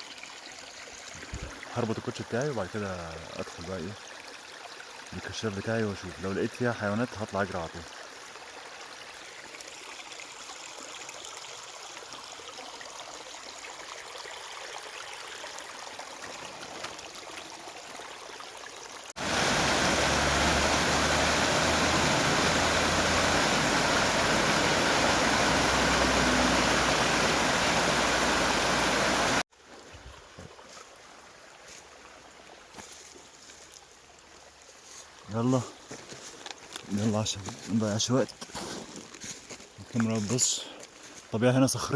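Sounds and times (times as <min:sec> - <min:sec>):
stream water running: 0:00.0 - 0:41.9.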